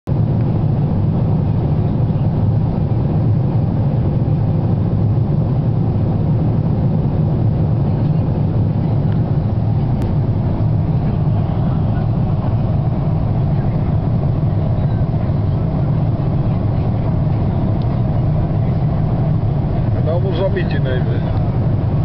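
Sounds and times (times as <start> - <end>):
airliner cabin drone: 0.1 - 22.0.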